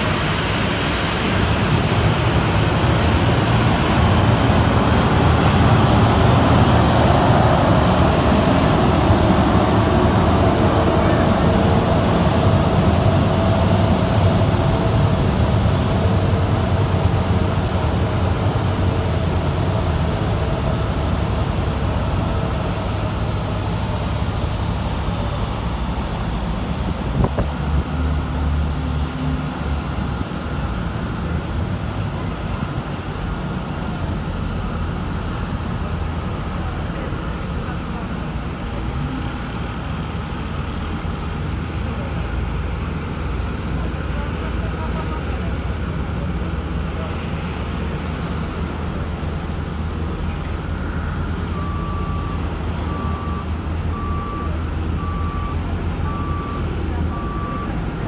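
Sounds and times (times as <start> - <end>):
aircraft mechanical drone: 0.0 - 58.0.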